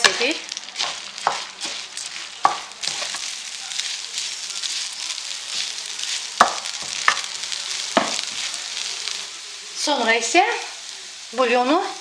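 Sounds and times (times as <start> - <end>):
rice and onion sizzling in oil: 0.0 - 12.0.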